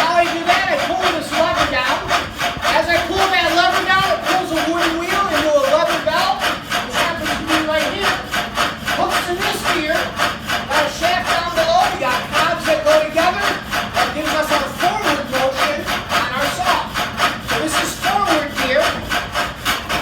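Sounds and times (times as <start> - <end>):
water-wheel machine running: 0.0 - 20.0.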